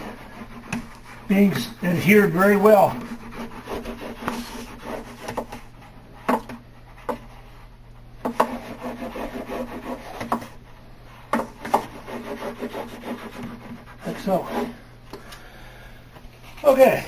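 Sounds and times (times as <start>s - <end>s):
roller rubbing on edge banding: 0.0s - 7.6s, 8.2s - 14.8s.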